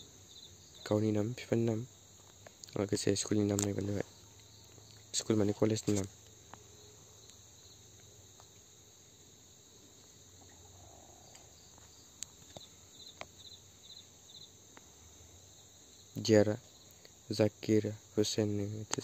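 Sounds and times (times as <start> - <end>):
faint background hiss: 0.0 - 19.0
insect chirping: 0.0 - 19.0.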